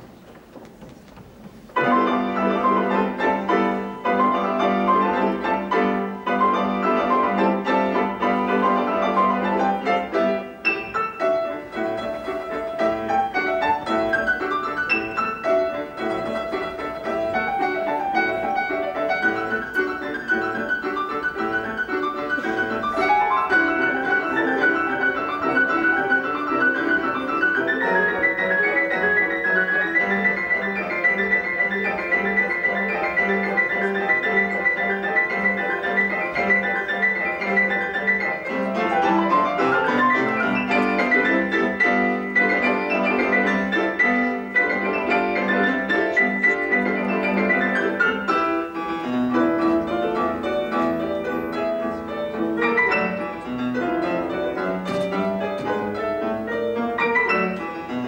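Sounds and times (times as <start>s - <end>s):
classical piano ensemble: 0.0s - 58.0s.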